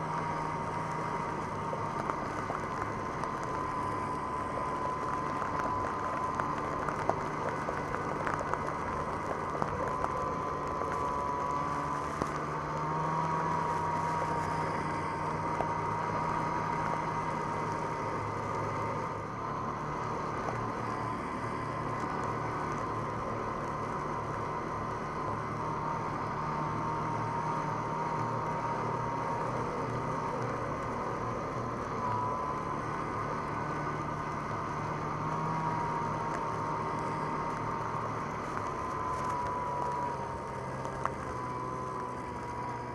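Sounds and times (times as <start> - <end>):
high whine: 0.0 - 42.9
snowmobile engine running: 0.0 - 42.9.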